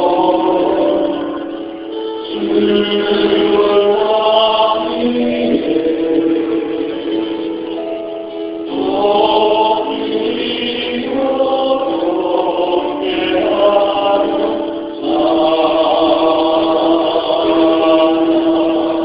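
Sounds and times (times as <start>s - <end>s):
congregation singing a hymn: 0.0s - 19.0s.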